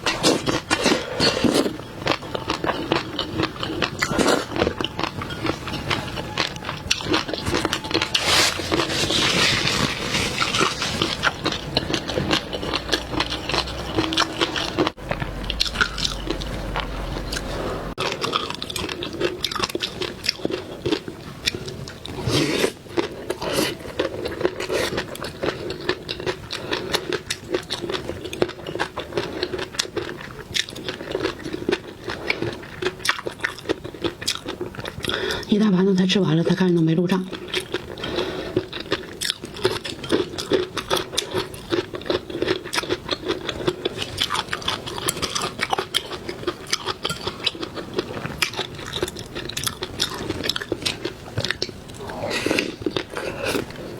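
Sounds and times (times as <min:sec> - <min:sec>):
person biting and chewing: 0:00.0 - 0:35.2, 0:37.3 - 0:53.9.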